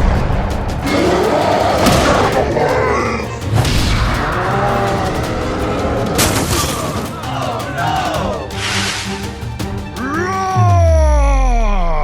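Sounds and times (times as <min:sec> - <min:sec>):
cartoon background music: 0:00.0 - 0:12.0.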